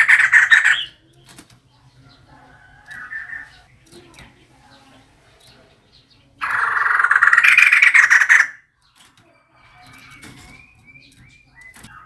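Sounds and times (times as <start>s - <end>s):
bird harsh chattering rattle: 0.0s - 4.4s, 5.4s - 12.0s.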